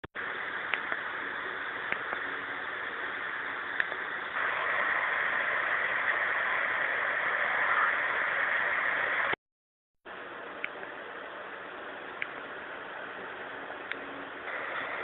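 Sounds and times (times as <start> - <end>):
room hiss: 0.2 - 9.4, 10.1 - 15.0.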